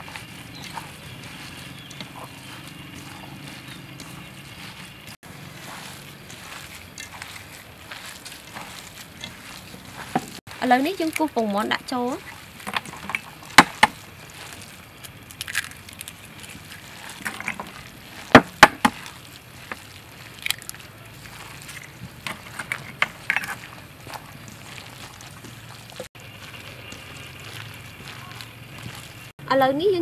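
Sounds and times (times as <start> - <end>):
hand squishing wet filling: 0.0 - 29.3.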